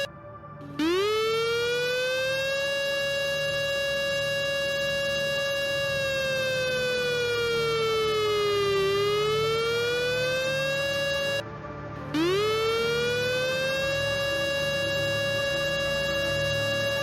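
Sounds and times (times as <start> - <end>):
air raid siren wailing: 0.0 - 17.0.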